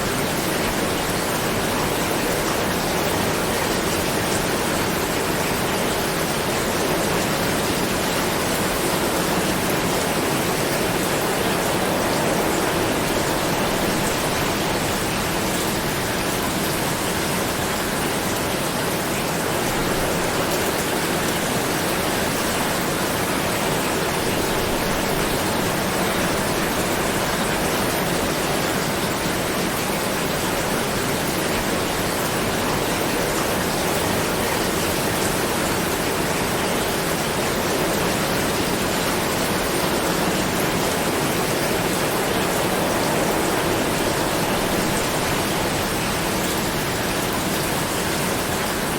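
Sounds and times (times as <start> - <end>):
heavy rain hissing: 0.0 - 48.9.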